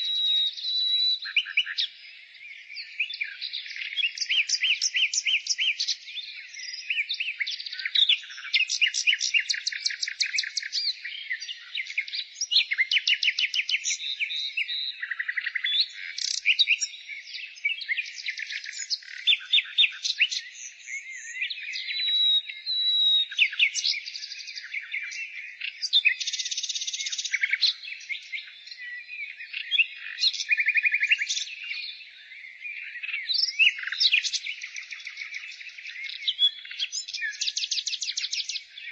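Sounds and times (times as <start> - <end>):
songbirds singing in chorus: 0.0 - 38.9.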